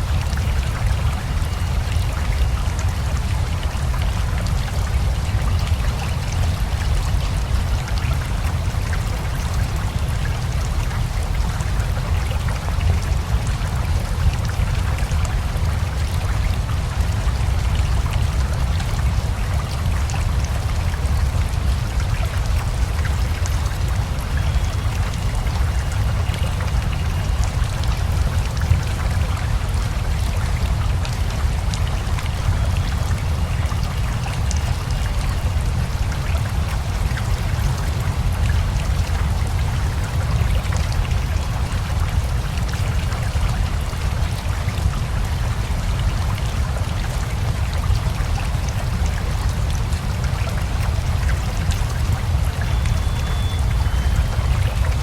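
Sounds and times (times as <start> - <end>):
river rushing: 0.0 - 55.0
steady rainfall: 0.0 - 55.0.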